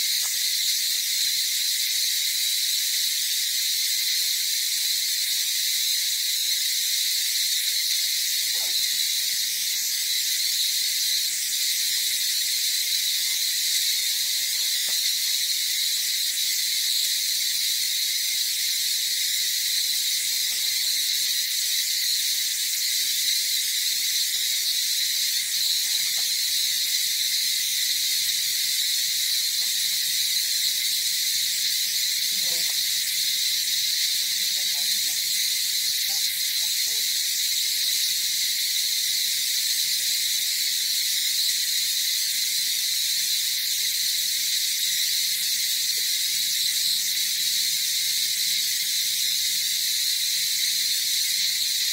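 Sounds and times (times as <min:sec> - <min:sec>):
insects buzzing: 0:00.0 - 0:51.9.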